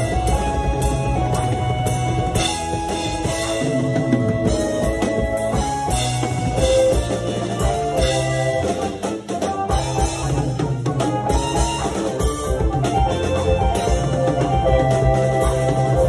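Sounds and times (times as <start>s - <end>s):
acoustic drum kit: 0.0s - 16.0s
bass line and chords: 0.0s - 16.0s.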